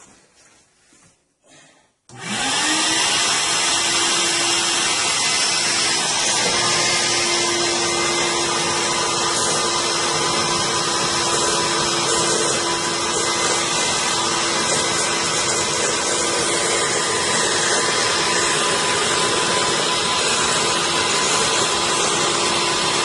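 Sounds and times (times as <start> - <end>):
shop vacuum motor whining: 2.1 - 23.0
vacuum sucking water: 2.1 - 23.0.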